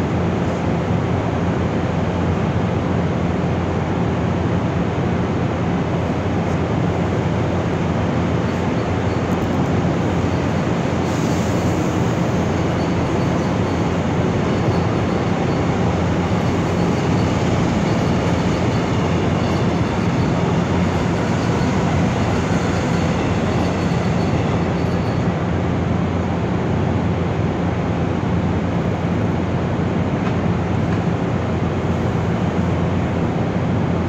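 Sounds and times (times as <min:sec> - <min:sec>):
train wheels rolling on rails: 0:05.0 - 0:34.0.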